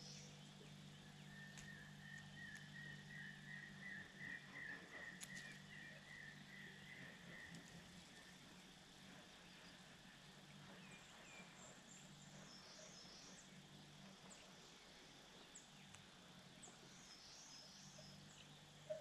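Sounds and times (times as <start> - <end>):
distant birds chirping: 0.0 - 19.0
low steady hum: 0.0 - 19.0.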